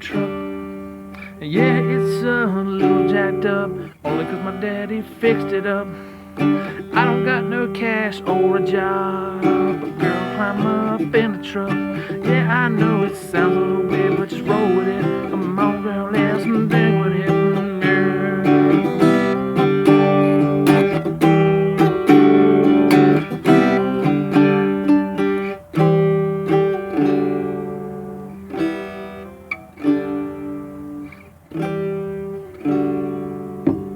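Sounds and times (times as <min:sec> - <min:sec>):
acoustic guitar plucked notes: 0:00.0 - 0:33.9.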